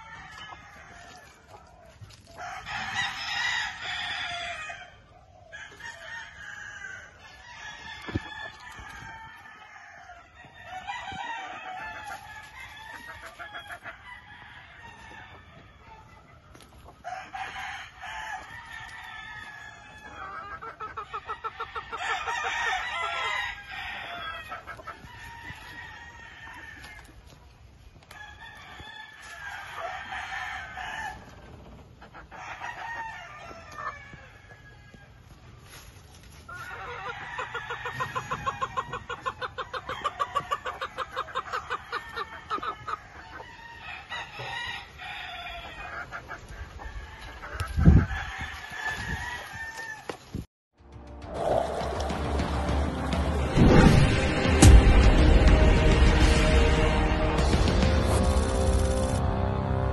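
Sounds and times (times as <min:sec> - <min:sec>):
chickens clucking and cackling: 0:00.0 - 0:50.5.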